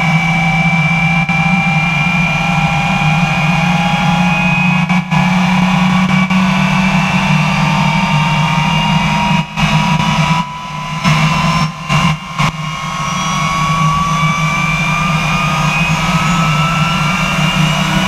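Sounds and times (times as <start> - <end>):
jet engine rumble: 0.0 - 18.0
jet engine whining tones: 0.0 - 18.0.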